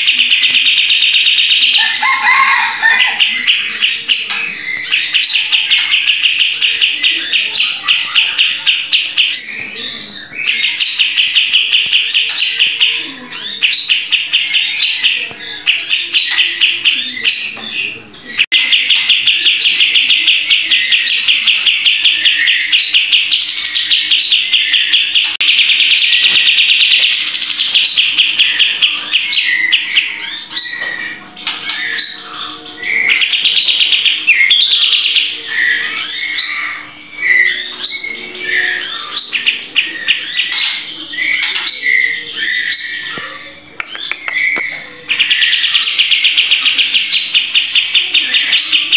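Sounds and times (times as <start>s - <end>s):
bird singing fast trills: 0.0s - 48.9s.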